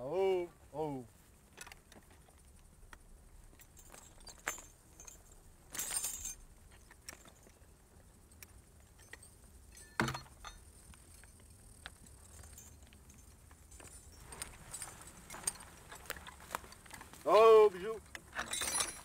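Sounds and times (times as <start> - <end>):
harness chains jingling: 3.4 - 19.0.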